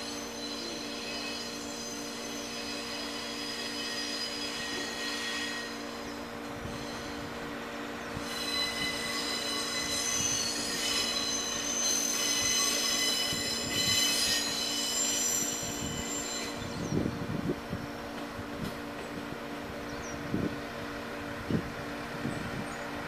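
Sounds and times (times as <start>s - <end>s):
train wheels squealing on track: 0.0s - 19.3s.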